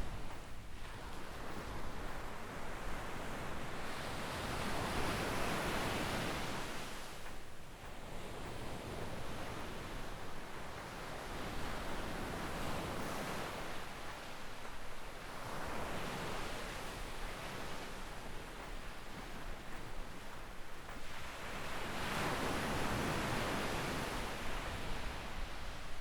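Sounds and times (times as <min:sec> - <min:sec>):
waves washing up a beach: 0:00.0 - 0:26.0.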